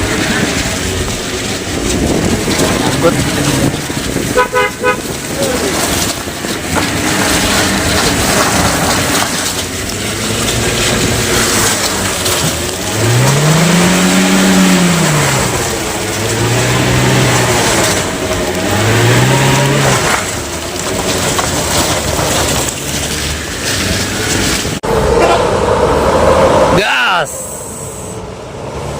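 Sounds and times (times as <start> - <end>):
vehicle engine revving: 0.0 - 26.8
rumble of road noise: 0.0 - 28.9.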